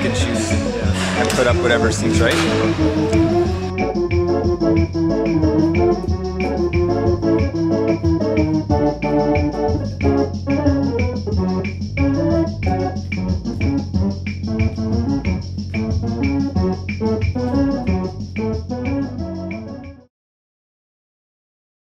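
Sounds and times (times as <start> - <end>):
bass line and steady beat: 0.0 - 20.1
instrumental music with organ keyboard: 0.0 - 20.1.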